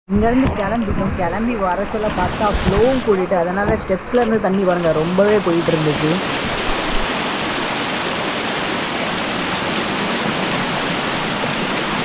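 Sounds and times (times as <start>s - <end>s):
rainwater rushing down steps: 0.5s - 12.0s.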